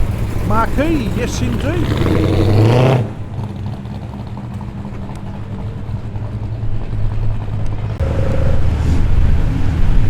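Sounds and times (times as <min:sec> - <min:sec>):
car engine rumble passing slowly: 0:00.0 - 0:10.0.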